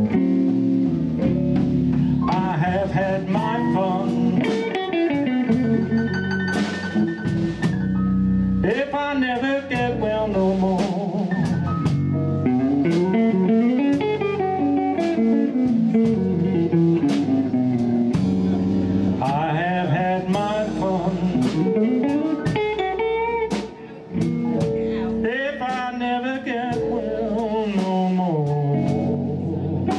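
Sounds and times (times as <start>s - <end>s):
lead guitar bending notes: 0.0s - 29.9s
live blues band playing: 0.0s - 29.9s
steady drum beat: 0.0s - 29.9s.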